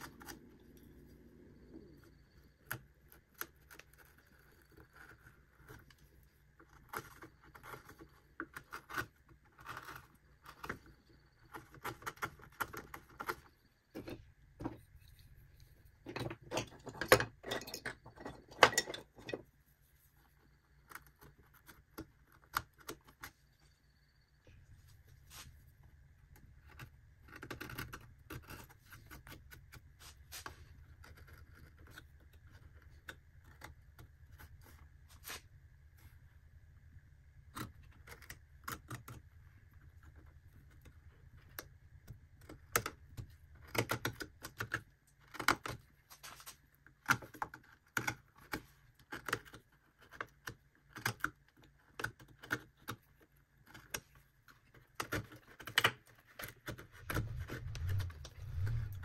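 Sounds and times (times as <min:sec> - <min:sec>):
knife carving bark: 0:00.0 - 0:17.3, 0:18.2 - 0:59.0
faint steady hum: 0:00.0 - 0:59.0.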